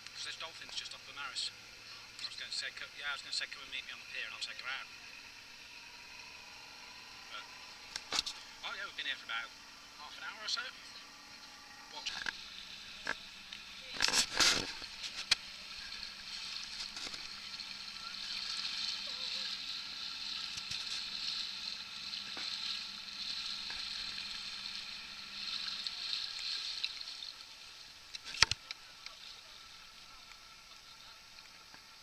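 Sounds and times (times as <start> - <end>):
water hissing around boat: 0.0 - 32.0.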